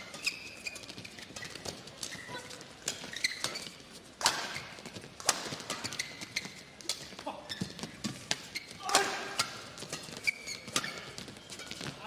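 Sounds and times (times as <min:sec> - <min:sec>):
racket hitting shuttlecock: 0:00.0 - 0:07.2, 0:07.8 - 0:12.0
shoes squeaking on court floor: 0:00.0 - 0:12.0.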